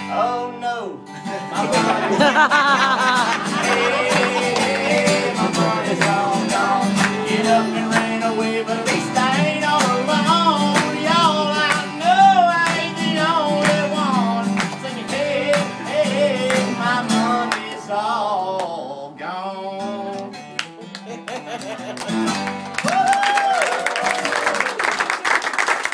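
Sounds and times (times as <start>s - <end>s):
acoustic guitars playing country: 0.0s - 23.1s.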